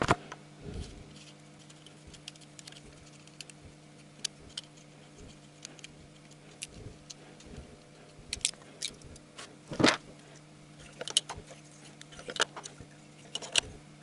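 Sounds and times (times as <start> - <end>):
ignition coils clicking and knocking: 1.2 - 10.2, 10.8 - 13.7.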